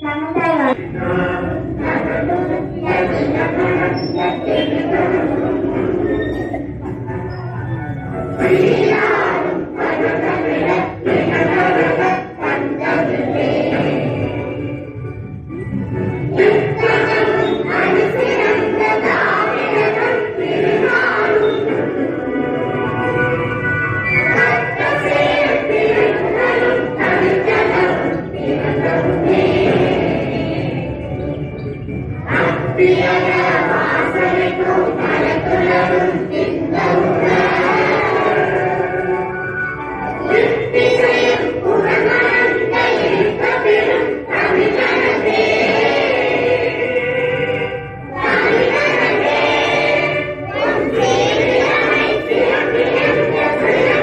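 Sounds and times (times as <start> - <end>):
children singing in unison: 0.7 - 7.4, 8.3 - 14.9, 16.2 - 23.5, 24.2 - 31.4, 32.2 - 39.4, 40.0 - 54.0.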